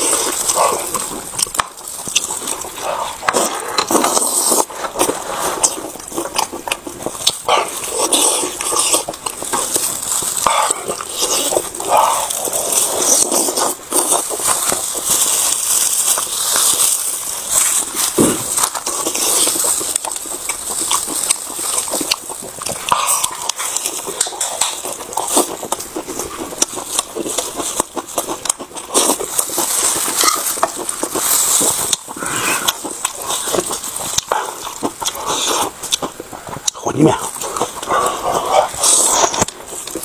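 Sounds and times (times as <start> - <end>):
wet chewing: 0.0 - 40.0.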